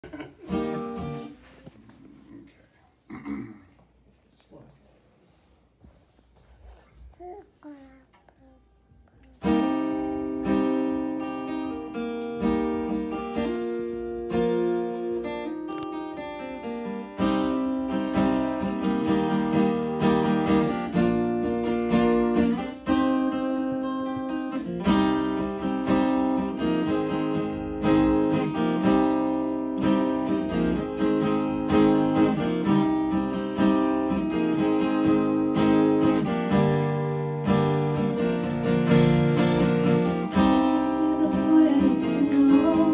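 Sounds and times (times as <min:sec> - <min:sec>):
acoustic guitars playing chords: 0:00.0 - 0:01.6, 0:07.0 - 0:42.9.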